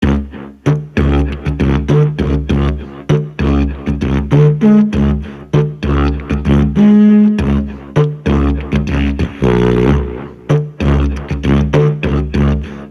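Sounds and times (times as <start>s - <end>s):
beatbox strokes through horn: 0.0s - 12.9s
didgeridoo drone: 0.0s - 12.9s.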